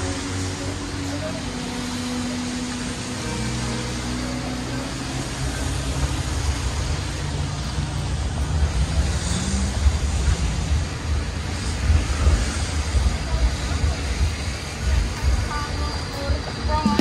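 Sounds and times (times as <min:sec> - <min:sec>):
low uneven traffic rumble: 0:00.0 - 0:17.0
tyres hissing on wet road: 0:00.0 - 0:17.0.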